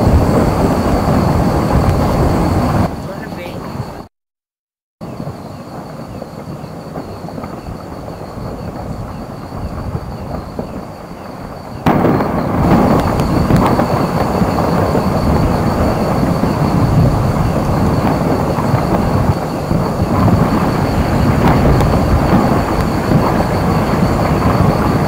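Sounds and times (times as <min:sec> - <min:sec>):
rockfall rumbling roar: 0:00.0 - 0:04.0, 0:05.1 - 0:25.0.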